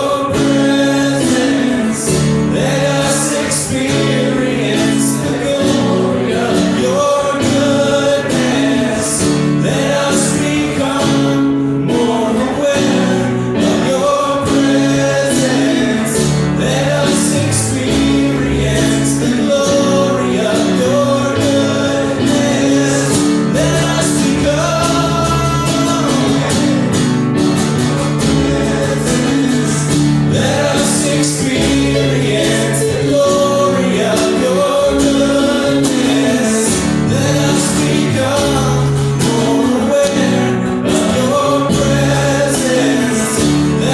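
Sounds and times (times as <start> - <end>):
band playing held chords: 0.0 - 43.9
person singing: 0.0 - 43.9.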